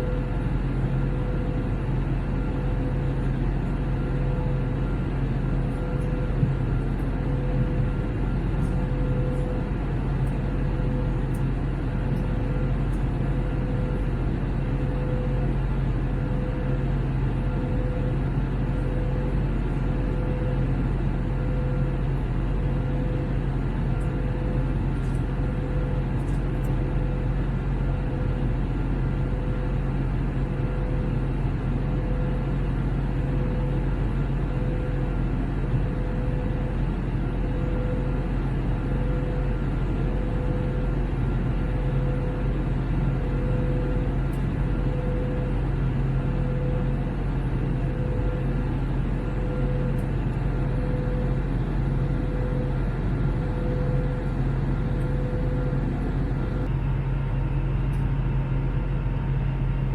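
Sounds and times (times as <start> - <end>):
jet engines droning: 0.0 - 59.9
pulsing mid-pitched hum: 0.0 - 59.9.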